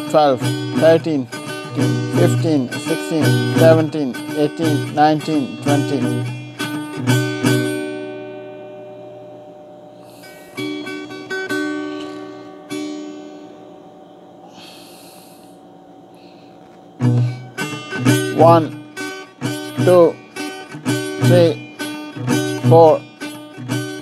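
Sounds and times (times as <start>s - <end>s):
acoustic guitar notes: 0.0s - 24.0s.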